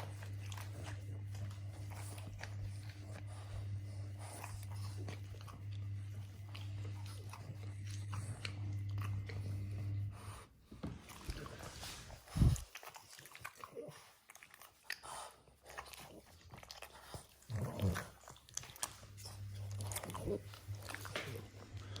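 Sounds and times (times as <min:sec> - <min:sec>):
low steady hum: 0:00.0 - 0:12.9, 0:16.5 - 0:22.0
dog chewing and crunching: 0:00.0 - 0:22.0.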